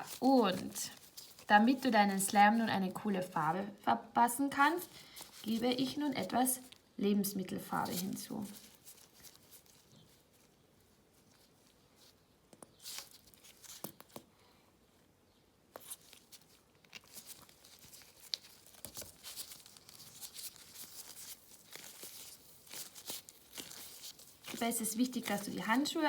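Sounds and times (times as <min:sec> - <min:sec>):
slime rustling: 0:00.0 - 0:03.5, 0:04.6 - 0:14.3, 0:15.7 - 0:26.0
gloves crinkling: 0:00.0 - 0:03.6, 0:04.4 - 0:14.5, 0:15.7 - 0:26.0.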